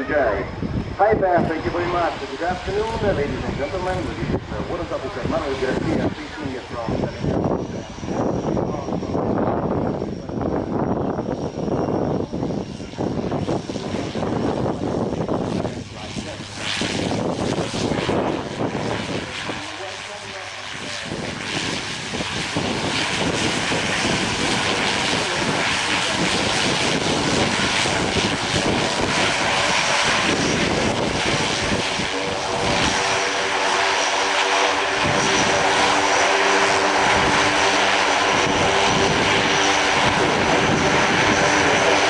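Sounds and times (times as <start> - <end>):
propeller drone: 0.0 - 42.0
turboprop engines rushing: 0.0 - 42.0.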